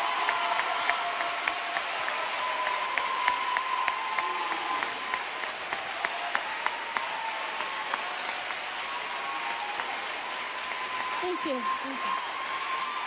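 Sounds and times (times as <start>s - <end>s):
large crowd applauding: 0.0s - 13.0s.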